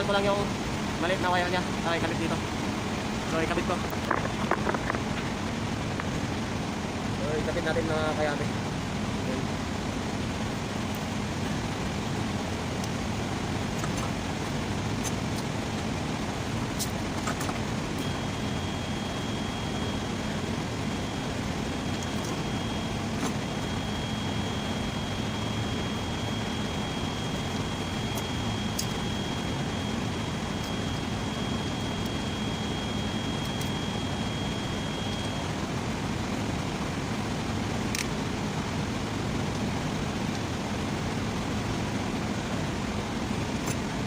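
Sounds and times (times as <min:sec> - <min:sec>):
low rumbling background noise: 0:00.0 - 0:44.0
thin high whine: 0:00.0 - 0:44.0.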